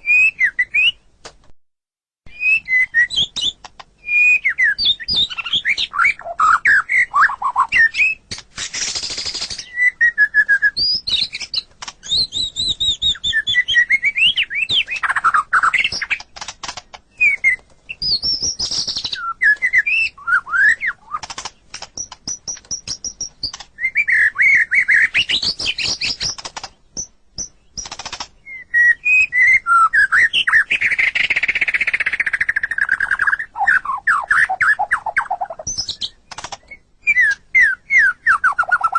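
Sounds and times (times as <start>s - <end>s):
bird singing whistled song: 0.0s - 1.1s, 2.3s - 16.2s, 17.1s - 21.3s, 22.0s - 38.9s.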